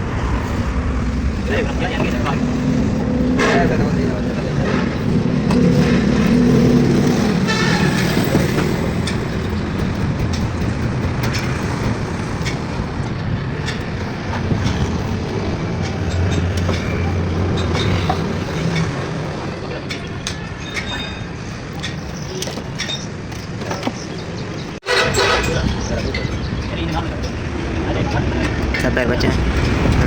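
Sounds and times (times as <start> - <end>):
vehicle engines in traffic: 0.0 - 30.0.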